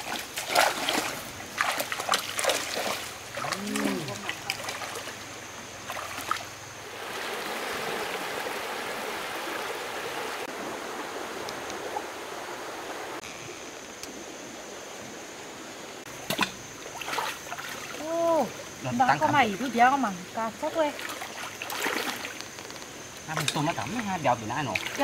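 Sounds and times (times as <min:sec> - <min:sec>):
splashes of wading: 0:00.0 - 0:13.4, 0:16.0 - 0:25.0
stream flowing: 0:00.0 - 0:25.0.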